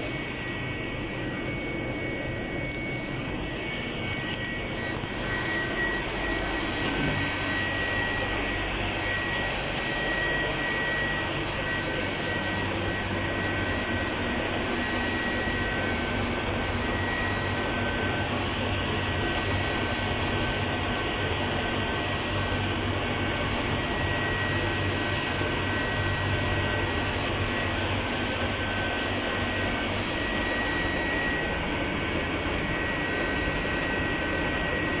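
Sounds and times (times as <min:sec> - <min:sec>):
factory machinery hum: 0:00.0 - 0:35.0
thin high machine whine: 0:00.0 - 0:35.0.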